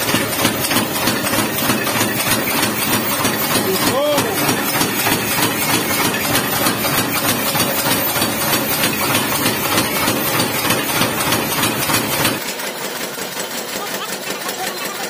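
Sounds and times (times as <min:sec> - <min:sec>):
power hammer pounding hot steel: 0:00.0 - 0:14.9.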